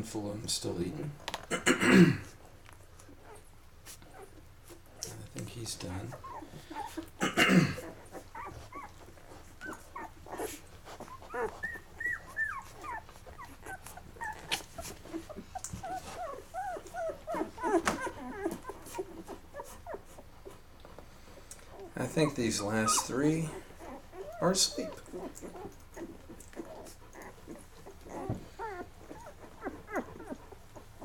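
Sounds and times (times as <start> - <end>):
puppies squeaking and whimpering: 3.0 - 7.2, 7.8 - 31.0.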